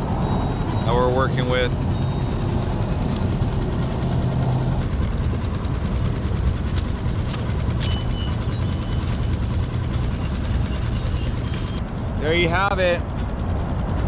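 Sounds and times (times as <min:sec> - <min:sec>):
outboard motor droning: 0:00.0 - 0:14.0.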